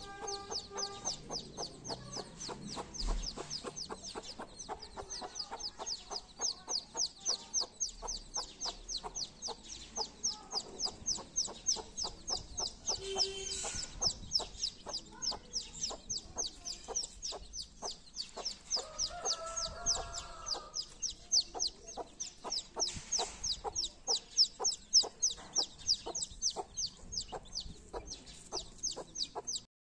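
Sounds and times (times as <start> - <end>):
chicks peeping: 0.0 - 29.7.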